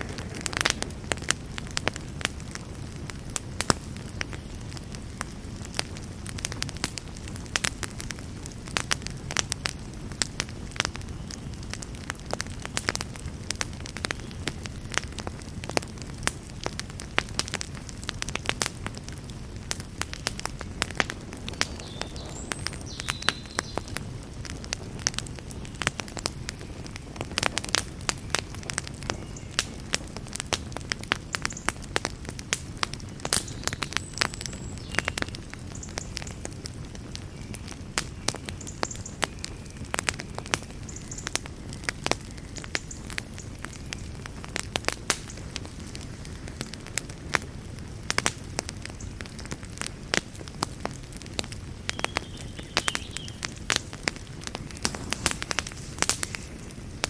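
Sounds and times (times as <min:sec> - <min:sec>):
campfire wood crackling and popping: 0:00.0 - 0:57.0
low rumble of fire: 0:00.0 - 0:57.0.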